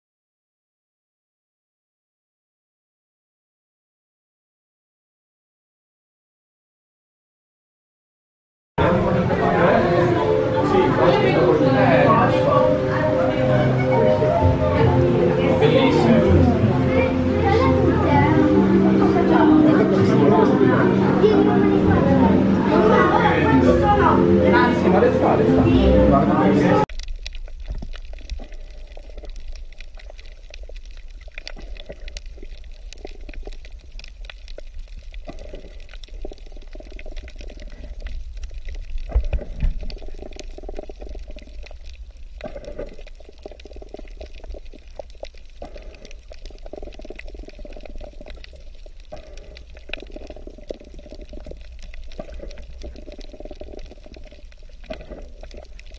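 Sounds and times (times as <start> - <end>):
faint underwater crackles: 8.8 - 55.9
underwater water rumble: 8.8 - 55.9.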